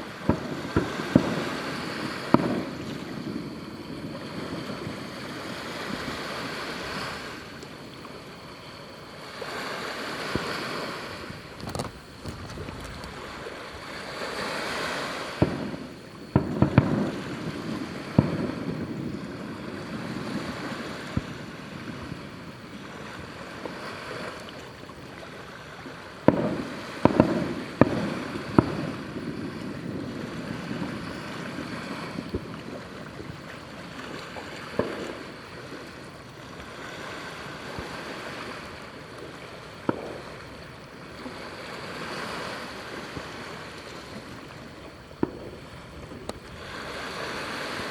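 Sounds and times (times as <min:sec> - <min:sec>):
firework shells bursting: 0:00.0 - 0:09.2, 0:10.0 - 0:25.1, 0:26.1 - 0:36.8, 0:38.6 - 0:41.2, 0:44.5 - 0:46.7.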